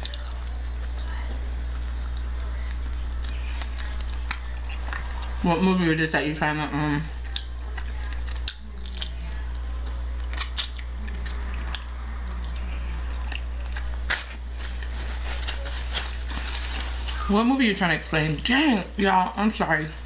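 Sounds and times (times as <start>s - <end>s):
person chewing and crunching: 0.0s - 5.5s, 6.7s - 17.3s
steady low hum: 0.0s - 20.0s.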